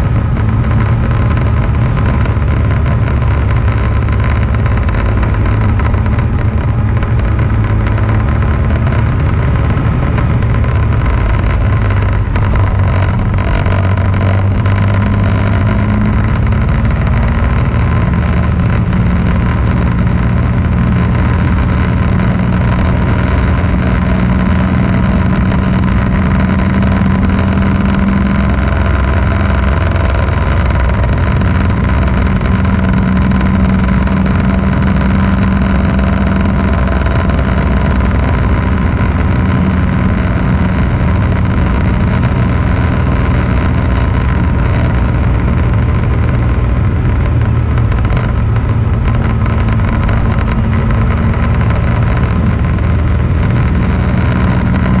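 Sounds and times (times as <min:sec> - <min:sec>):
road noise: 0:00.0 - 0:55.0
vehicle engine cruising: 0:00.0 - 0:55.0.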